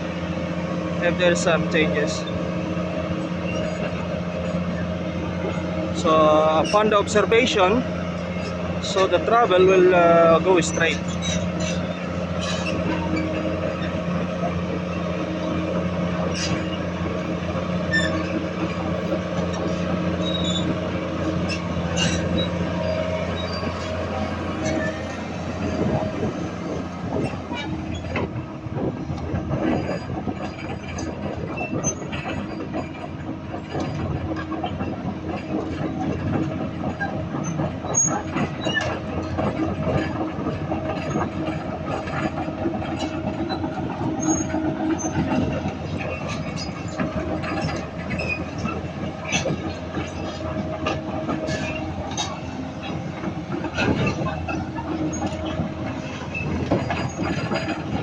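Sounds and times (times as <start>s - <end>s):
diesel engine and hydraulic pumps: 0.0s - 58.0s
steel tracks rattling and squeaking: 0.0s - 58.0s.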